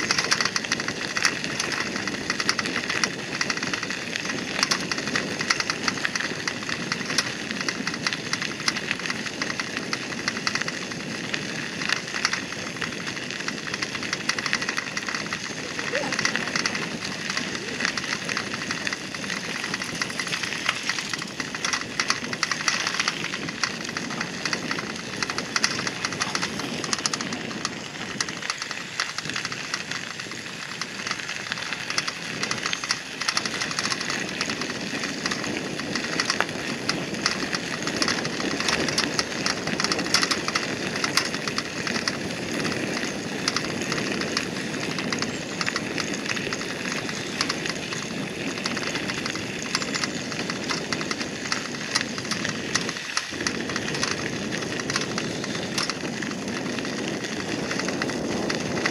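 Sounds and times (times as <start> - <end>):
bicycle tyres rolling on gravel: 0.0 - 58.9.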